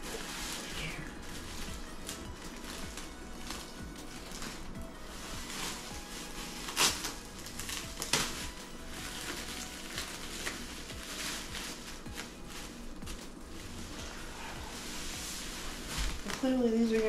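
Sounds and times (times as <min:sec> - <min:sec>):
sharp plastic crackles: 0:00.0 - 0:14.2, 0:15.6 - 0:17.0
plastic wrapping crinkling: 0:00.0 - 0:17.0.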